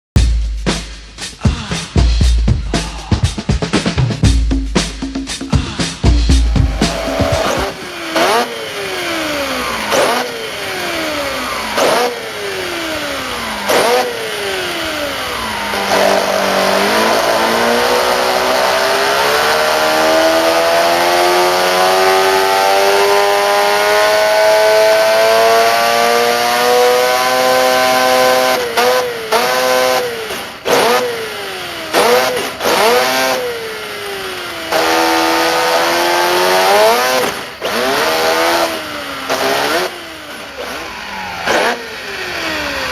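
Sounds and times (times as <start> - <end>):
toy car engine revving: 6.4 - 42.9.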